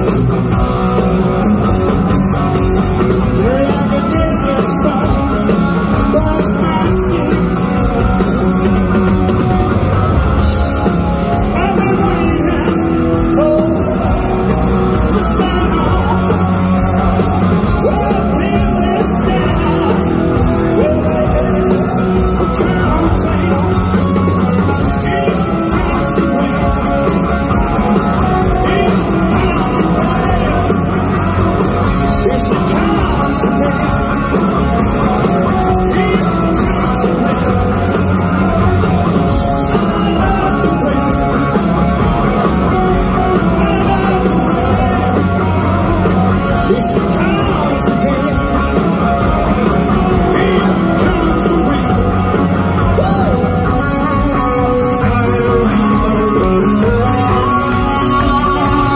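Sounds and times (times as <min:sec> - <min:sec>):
rock band playing live: 0:00.0 - 0:58.9
man singing: 0:01.4 - 0:09.3, 0:11.2 - 0:58.9.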